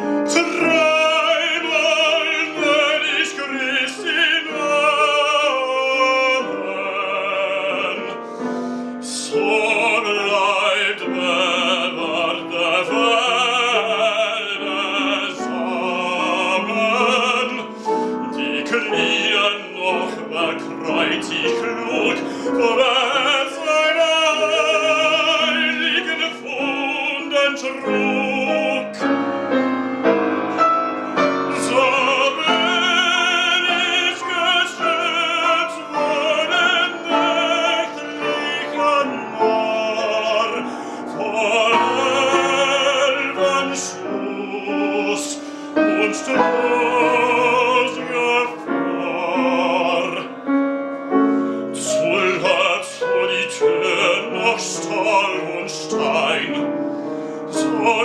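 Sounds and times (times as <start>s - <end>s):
operatic baritone singing: 0.0s - 58.0s
piano accompaniment: 0.0s - 58.0s.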